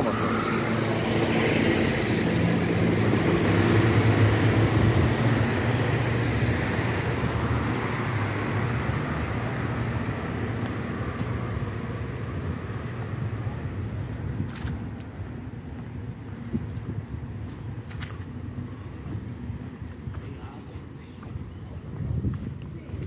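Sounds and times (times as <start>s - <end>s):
bus diesel engine drone: 0.0s - 22.3s.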